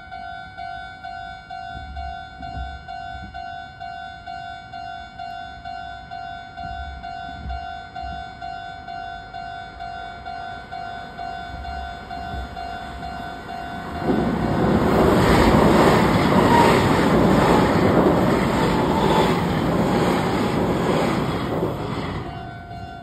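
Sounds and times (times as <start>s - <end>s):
level crossing warning bell ringing: 0.0s - 23.0s
train rumbling across steel bridge: 1.6s - 23.0s.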